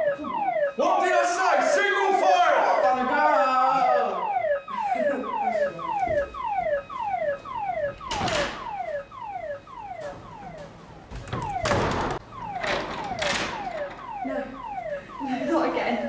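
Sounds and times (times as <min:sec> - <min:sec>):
fire alarm falling tone: 0:00.0 - 0:16.0.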